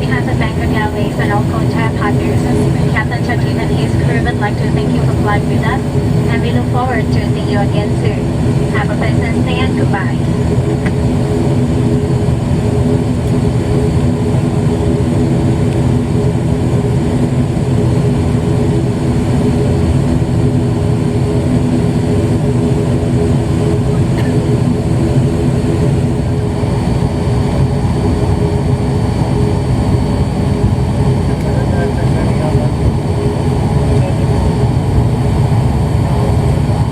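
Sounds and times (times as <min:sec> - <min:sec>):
turboprop engines droning: 0:00.0 - 0:36.9.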